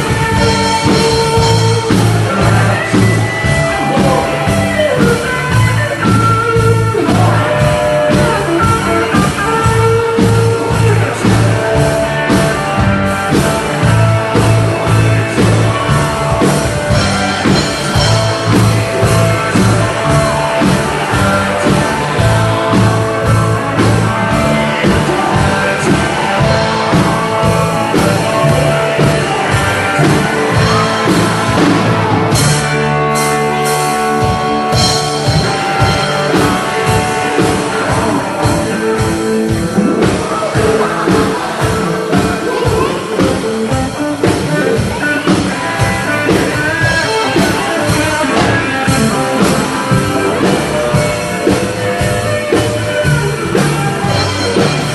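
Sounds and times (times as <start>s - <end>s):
bass guitar: 0.0s - 54.9s
electric guitar: 0.0s - 54.9s
person singing: 0.0s - 54.9s
steady drum beat: 0.0s - 54.9s.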